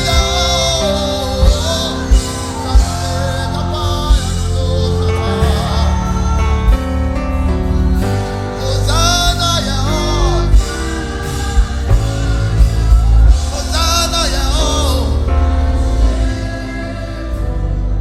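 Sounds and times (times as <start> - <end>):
band with heavy bass: 0.0 - 18.0
person singing: 0.0 - 18.0.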